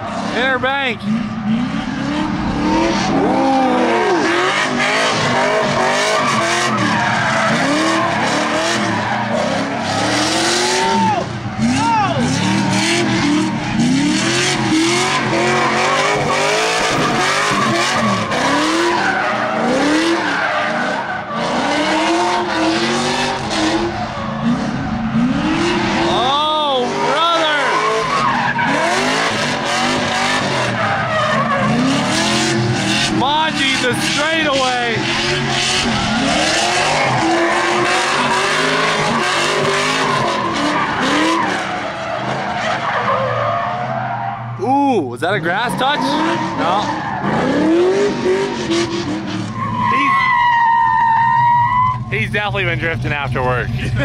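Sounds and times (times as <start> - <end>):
tyres screeching: 0.0 - 52.9
car engine revving: 0.0 - 54.0.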